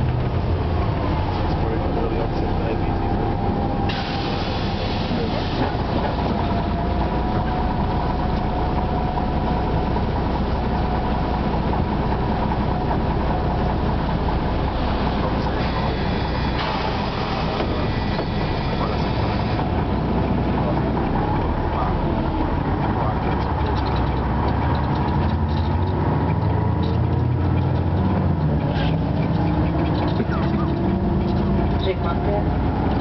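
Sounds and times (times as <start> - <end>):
bus diesel engine rumble: 0.0 - 33.0
road and rattle noise: 0.0 - 33.0.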